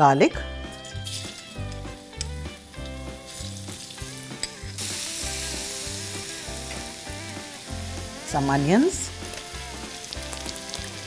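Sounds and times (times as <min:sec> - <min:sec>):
background music with bass beat: 0:00.4 - 0:11.0
garlic sizzling in oil: 0:00.6 - 0:11.0.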